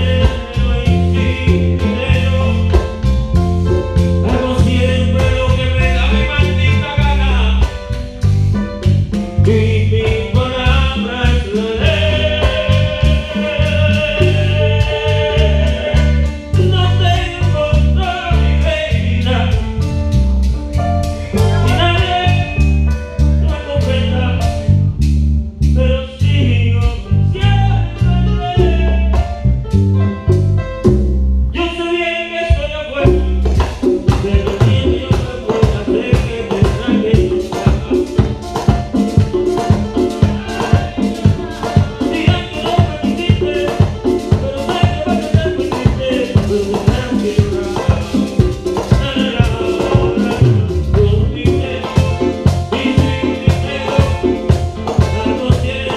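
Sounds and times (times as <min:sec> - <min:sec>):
band playing with singer: 0:00.0 - 0:55.9.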